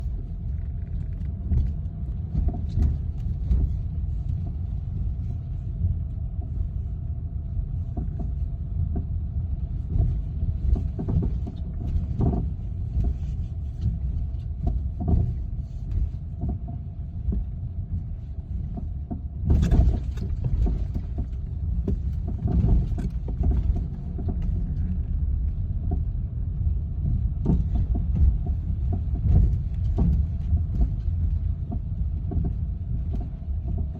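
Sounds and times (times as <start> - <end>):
car engine rumble: 0.0 - 33.9.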